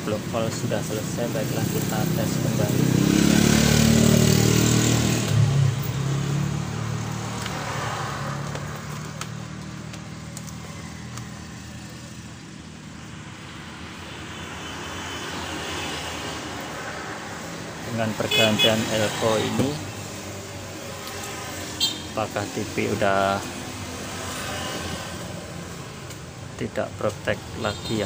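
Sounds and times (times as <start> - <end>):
vehicle engine passing: 0.6 - 28.0.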